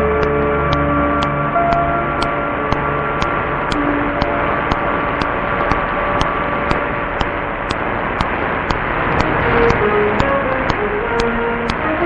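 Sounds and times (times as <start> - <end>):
sharp regular ticks: 0.0 - 12.0
radio static hiss and hum: 1.5 - 12.0.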